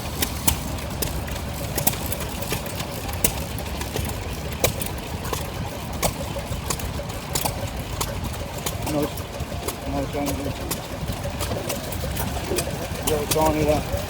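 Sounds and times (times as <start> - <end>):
stationary engine chuffing: 0.0 - 14.0.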